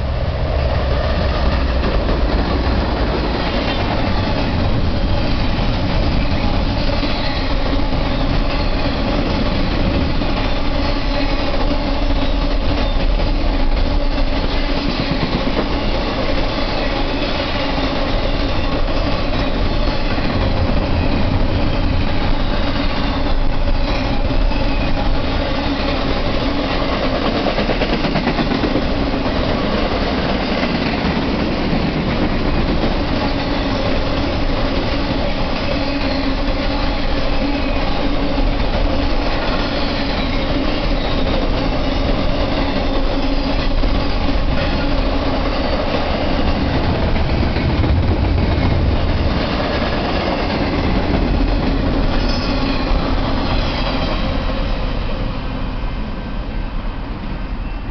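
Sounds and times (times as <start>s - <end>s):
freight train wheels clattering: 0.2s - 55.2s.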